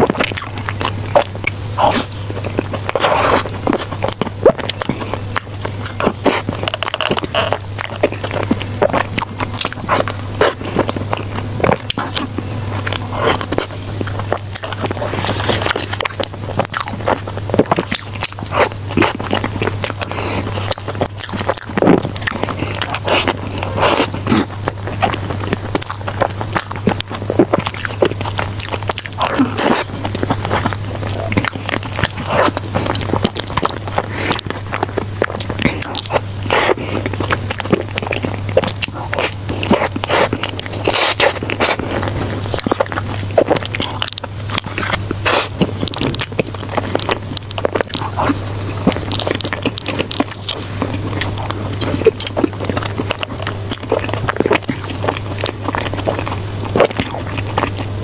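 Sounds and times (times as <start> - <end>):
biting and wet chewing: 0.0 - 58.0
low electrical hum: 0.0 - 58.0
mouth clicks and crackles: 0.0 - 58.0.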